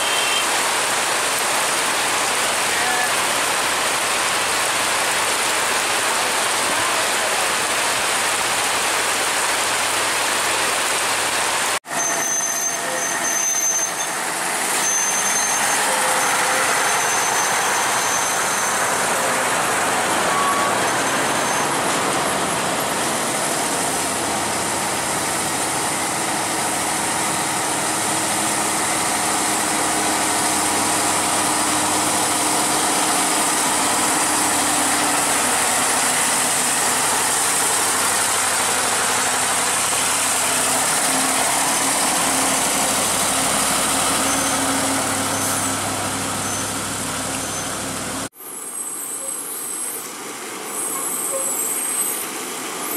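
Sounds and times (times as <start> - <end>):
diesel truck engines labouring: 0.0 - 52.9
tyres hissing on wet asphalt: 0.0 - 52.9.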